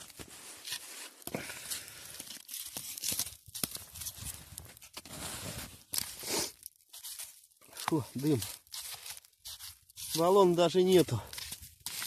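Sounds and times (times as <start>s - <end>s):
dry firewood rustling and crunching: 0.0s - 12.0s.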